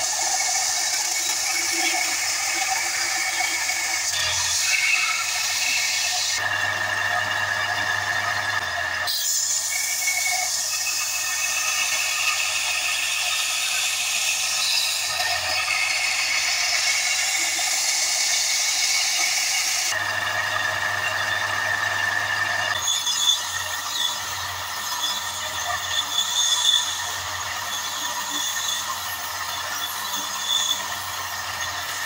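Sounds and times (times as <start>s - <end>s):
belt grinder grinding steel: 0.0s - 32.0s.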